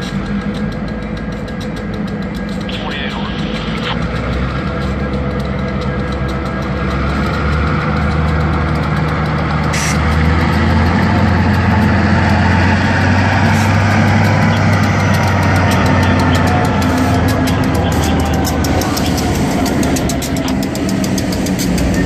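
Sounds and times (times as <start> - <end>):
diesel locomotive engines passing: 0.0 - 22.0.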